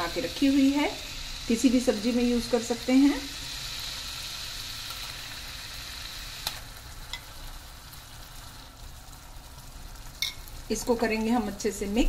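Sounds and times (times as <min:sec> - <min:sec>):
spices sizzling in a pan: 0:00.0 - 0:12.0.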